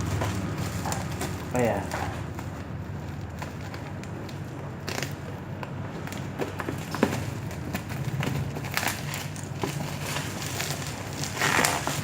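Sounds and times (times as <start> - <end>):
packaging taps and scrapes: 0.0 - 12.0.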